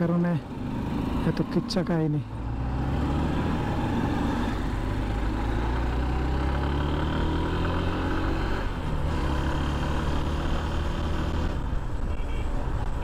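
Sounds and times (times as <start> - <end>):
motorcycle engine accelerating: 0.4 - 11.7.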